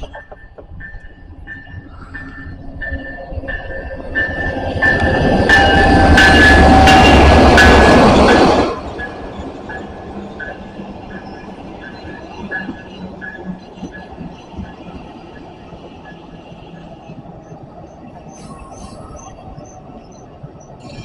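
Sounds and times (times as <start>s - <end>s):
railroad crossing bell dinging: 0.0s - 17.6s
passenger train rushing past: 0.0s - 21.0s.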